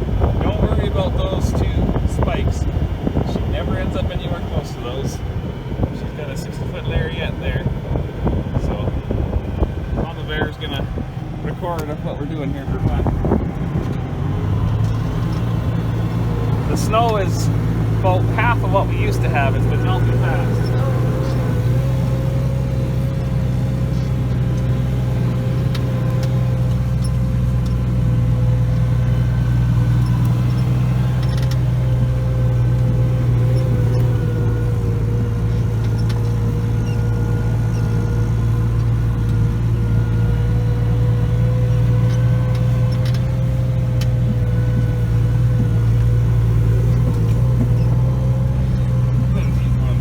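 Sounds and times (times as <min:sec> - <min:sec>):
tractor engine drone and whine: 0:00.0 - 0:50.0.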